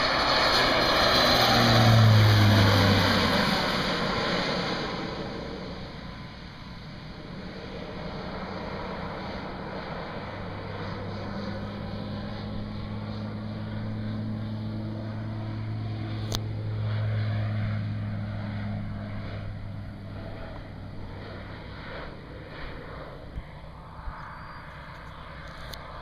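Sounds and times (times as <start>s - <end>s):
plane engine and propeller droning: 0.0s - 26.0s.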